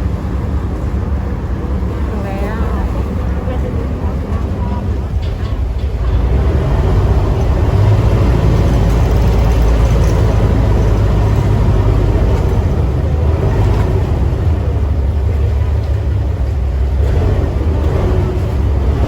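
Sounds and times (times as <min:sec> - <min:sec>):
noisy wash: 0:00.0 - 0:19.0
vehicle engine rumble: 0:00.0 - 0:19.0.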